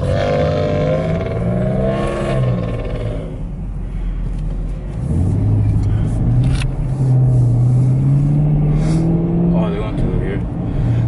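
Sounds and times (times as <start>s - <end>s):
car engine revving: 0.0s - 3.7s, 4.4s - 11.0s
low engine rumble: 0.0s - 11.0s.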